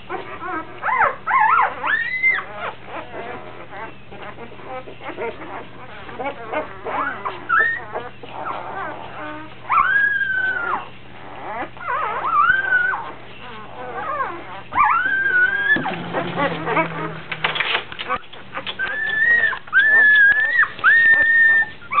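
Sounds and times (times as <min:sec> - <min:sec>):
newborn puppy crying: 0:00.0 - 0:22.0.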